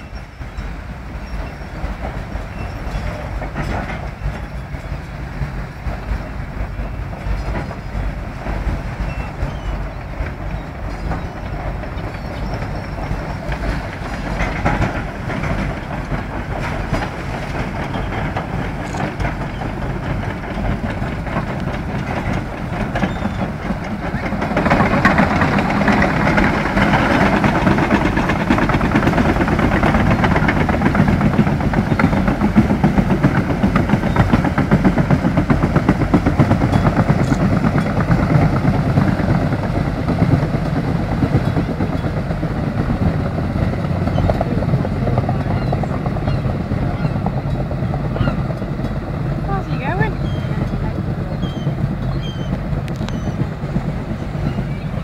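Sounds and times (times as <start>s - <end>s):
tractor and carriage rumbling: 0.0s - 55.0s
water rushing wash: 0.0s - 55.0s.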